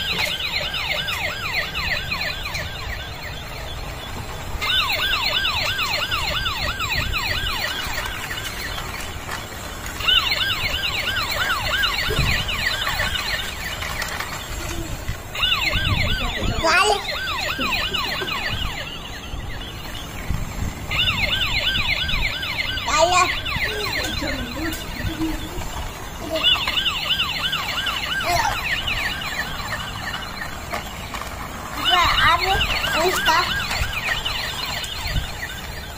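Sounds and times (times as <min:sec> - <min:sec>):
toy siren warbling: 0:00.0 - 0:35.9.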